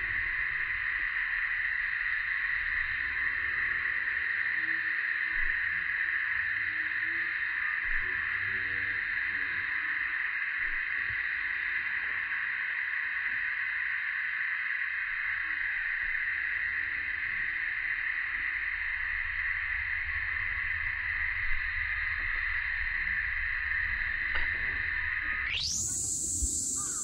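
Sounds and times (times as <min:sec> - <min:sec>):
cicada chorus drone: 0:00.0 - 0:27.0.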